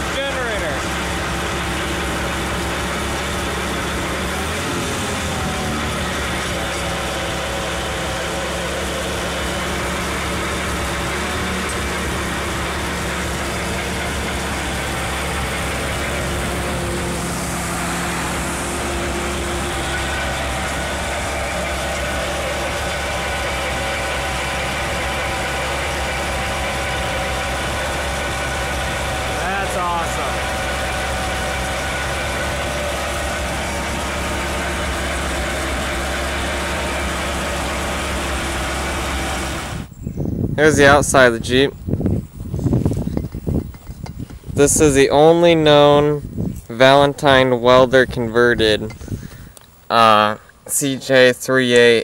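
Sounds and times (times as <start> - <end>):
engine running steadily: 0.0 - 51.9
generator spinning: 0.0 - 52.0.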